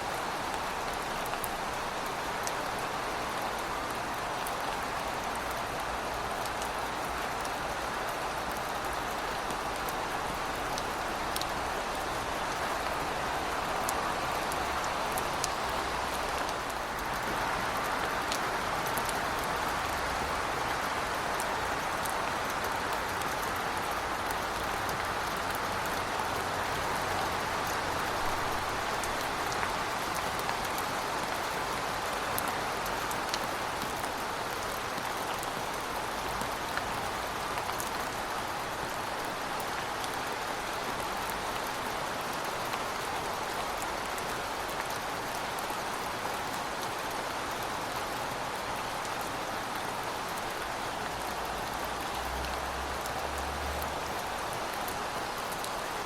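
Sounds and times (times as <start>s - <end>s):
heavy rain: 0.0s - 56.0s
raindrops ticking on hard surfaces: 0.1s - 56.0s.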